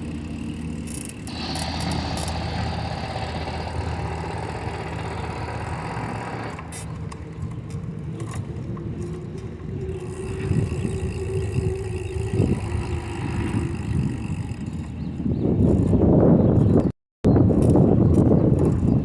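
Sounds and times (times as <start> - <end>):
bicycle tyre noise: 0.0 - 19.0
wind on microphone: 0.0 - 19.0.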